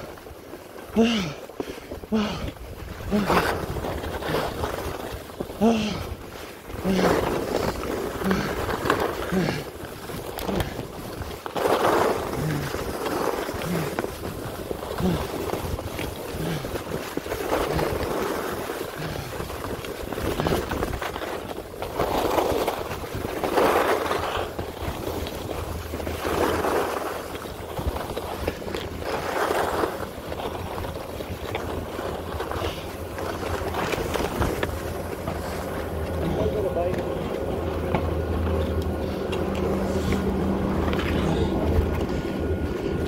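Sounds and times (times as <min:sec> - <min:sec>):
skis scraping on snow: 0:00.0 - 0:43.0
wind rumble on microphone: 0:00.0 - 0:43.0.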